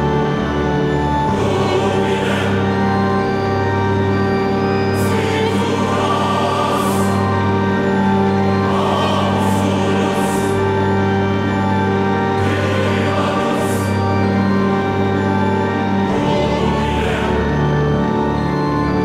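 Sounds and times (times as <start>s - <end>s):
choir-like voices over chords: 0.0s - 19.0s.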